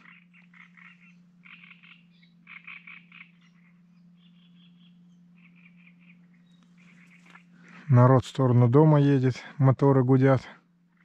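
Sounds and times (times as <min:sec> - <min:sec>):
frogs croaking: 0:00.0 - 0:11.0
steady low hum: 0:00.0 - 0:11.0.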